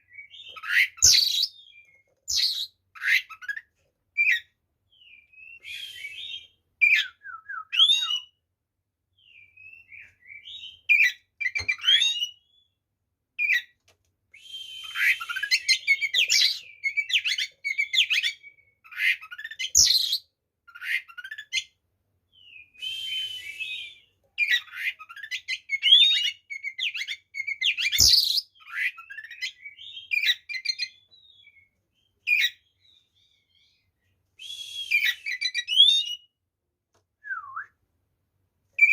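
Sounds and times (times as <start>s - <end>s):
songbird whistles and trills: 0.0s - 8.4s, 9.2s - 12.8s, 14.3s - 21.7s, 22.3s - 36.4s, 37.2s - 37.8s.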